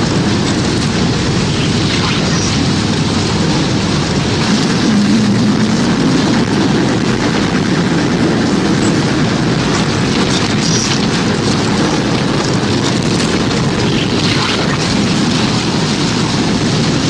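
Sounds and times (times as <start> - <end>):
loud rushing wind: 0.0 - 17.0.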